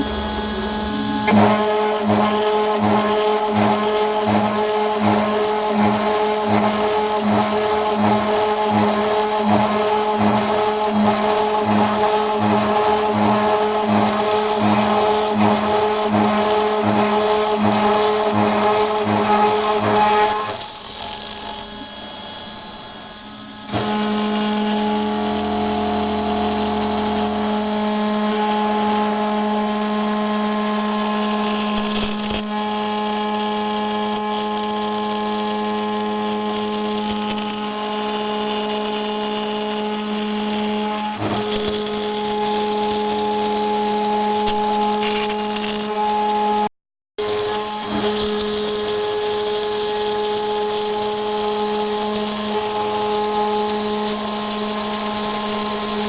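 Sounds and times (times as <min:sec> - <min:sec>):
milling machine spindle whining: 0:00.0 - 0:56.0.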